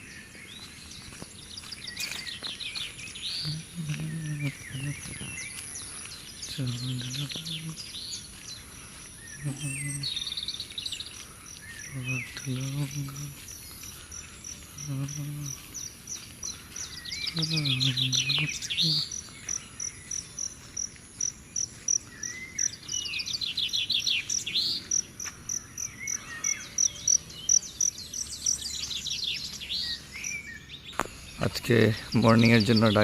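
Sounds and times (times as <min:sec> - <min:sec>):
songbirds trilling and whistling: 0:00.0 - 0:33.0
steady high chirp: 0:00.0 - 0:33.0.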